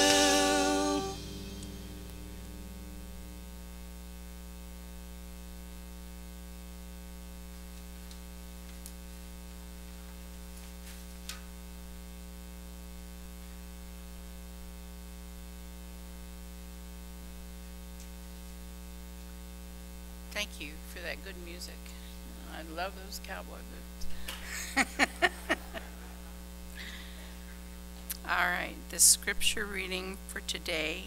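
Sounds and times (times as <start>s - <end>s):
electrical mains hum: 0.0s - 31.0s
faint static: 0.0s - 31.0s.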